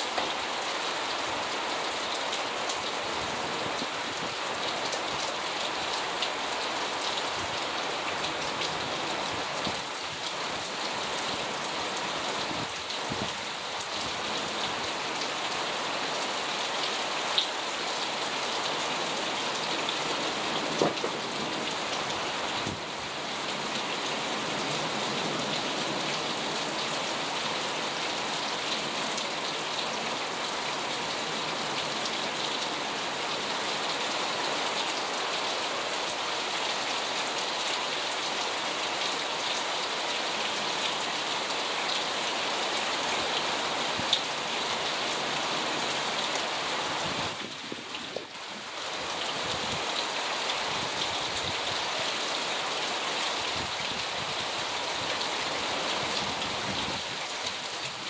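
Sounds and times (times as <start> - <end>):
heavy rain on cars and pavement: 0.0 - 58.0.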